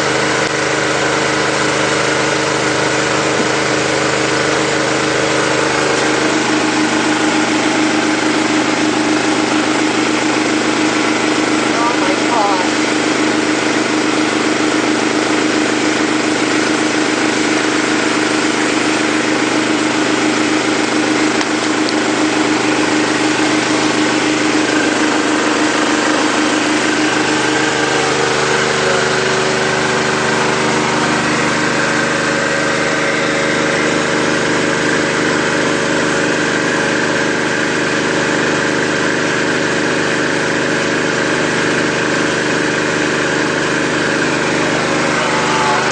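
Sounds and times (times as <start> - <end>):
machine motor humming: 0.0 - 45.9.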